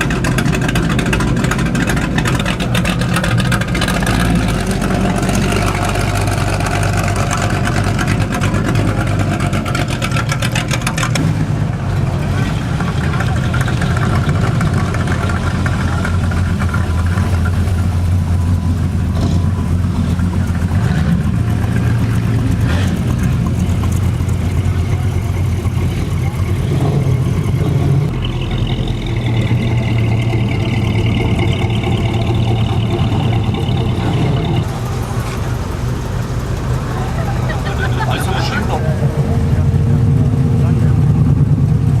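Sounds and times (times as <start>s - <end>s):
car engine idling and revving: 0.0s - 42.0s.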